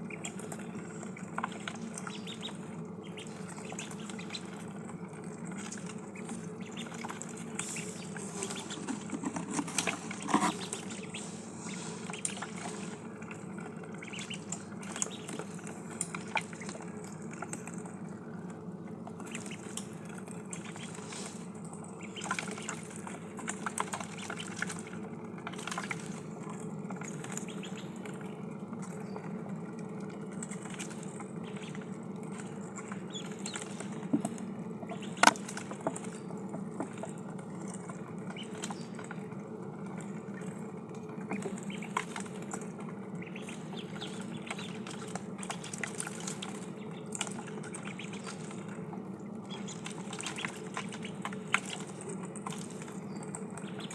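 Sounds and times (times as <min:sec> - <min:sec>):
ducklings slurping and splashing: 0:00.0 - 0:53.9
steady low hum: 0:00.0 - 0:53.9.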